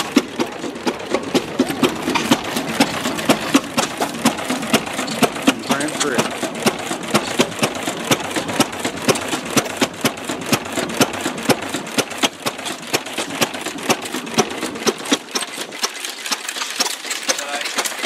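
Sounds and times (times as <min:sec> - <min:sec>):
old gas engine clattering: 0:00.0 - 0:18.0
other old engines running: 0:00.0 - 0:18.0.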